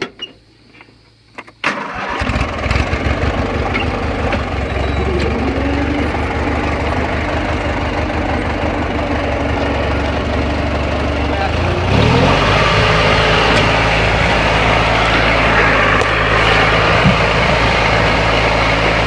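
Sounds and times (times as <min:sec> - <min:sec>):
lawn mower engine idling: 0:01.7 - 0:19.0.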